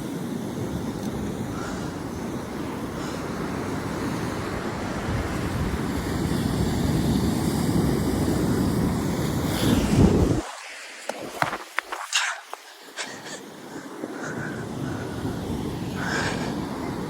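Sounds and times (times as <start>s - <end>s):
ocean surf: 0.0s - 17.0s
wind buffeting microphone: 0.1s - 12.3s, 13.1s - 17.0s.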